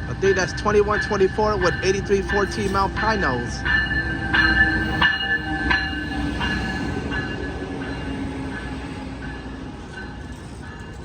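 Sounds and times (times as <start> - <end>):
train wheels and brakes squealing: 0.0 - 11.0.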